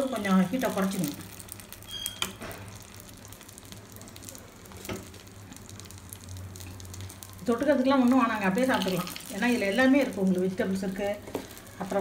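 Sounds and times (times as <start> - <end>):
batter sizzling in hot oil: 0.0 - 12.0.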